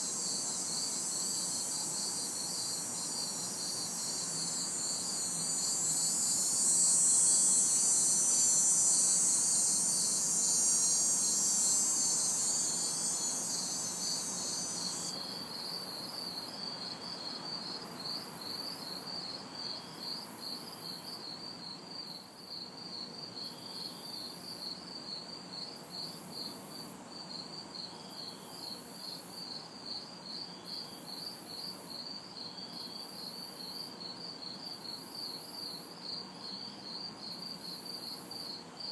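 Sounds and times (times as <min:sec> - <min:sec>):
cicada buzz: 0:00.0 - 0:38.9
crickets chirping: 0:00.0 - 0:38.9.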